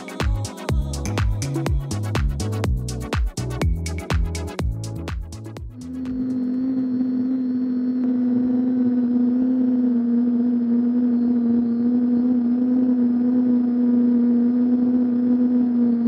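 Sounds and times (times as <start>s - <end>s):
drone propellers humming: 0.0s - 15.2s.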